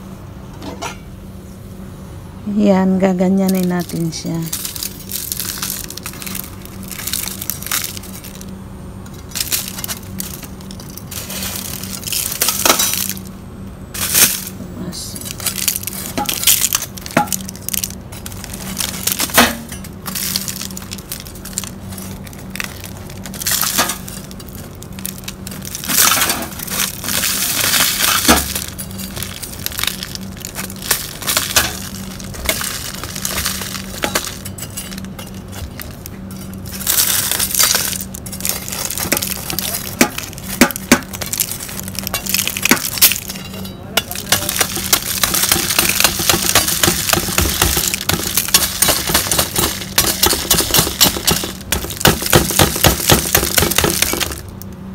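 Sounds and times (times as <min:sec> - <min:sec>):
salt pieces clinking onto foil: 0:03.5 - 0:08.5, 0:09.2 - 0:13.3, 0:14.0 - 0:54.4
salt crust crunching and cracking: 0:03.5 - 0:13.4, 0:14.0 - 0:14.6, 0:15.2 - 0:54.8.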